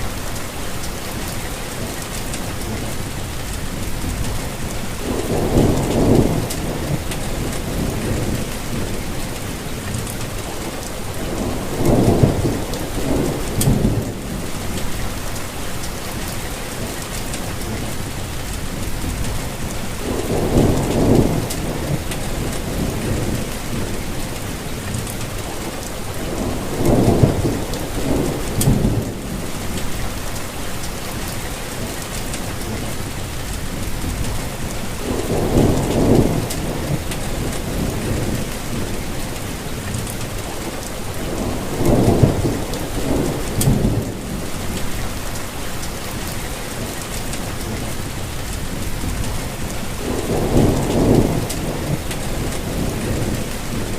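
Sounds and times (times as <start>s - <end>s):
steady rainfall: 0.0s - 53.9s
rolling thunder: 2.5s - 15.4s, 17.5s - 30.4s, 32.5s - 53.9s.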